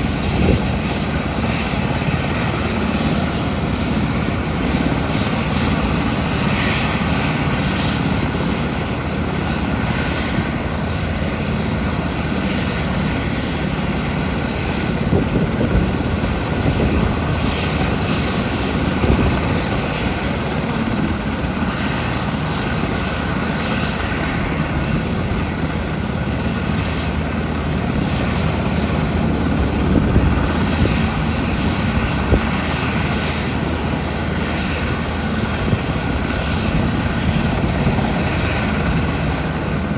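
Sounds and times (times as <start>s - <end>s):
helicopter engines and rotor whirring: 0.0s - 39.9s.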